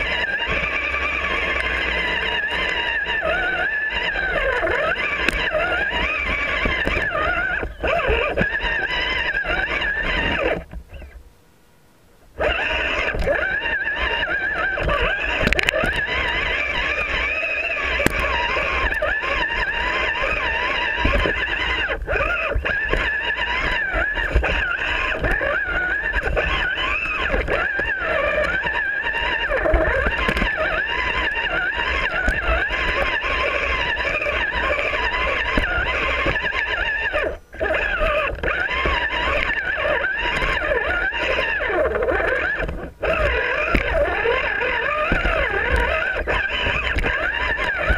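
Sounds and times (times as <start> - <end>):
electric motor and gears whining: 0.0 - 11.4, 12.3 - 47.9.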